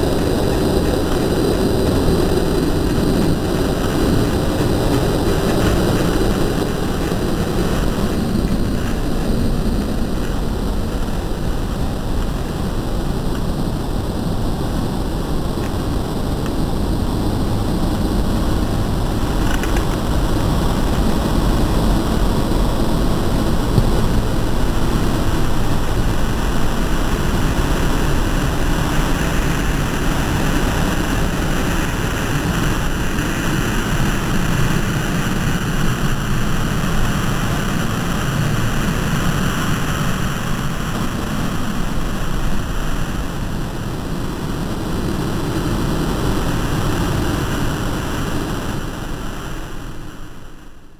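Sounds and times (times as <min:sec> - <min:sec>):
dense bass noise drone: 0:00.0 - 0:50.9.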